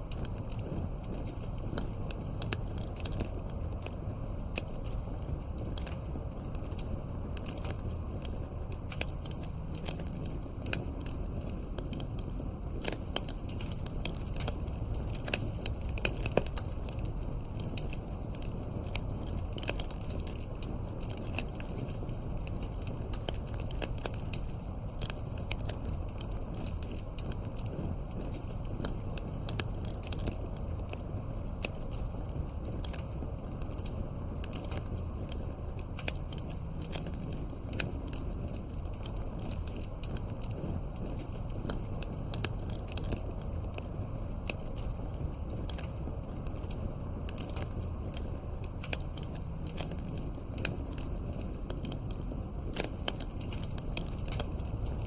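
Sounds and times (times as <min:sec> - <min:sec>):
campfire crackling: 0:00.0 - 0:55.0
low rumble of burning: 0:00.0 - 0:55.0.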